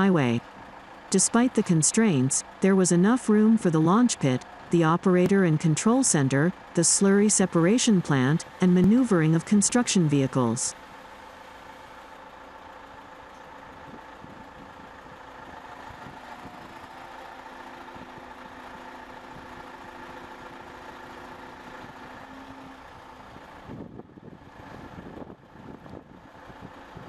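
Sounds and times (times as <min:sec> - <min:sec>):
heavy vehicle engines and traffic: 0:00.0 - 0:27.0.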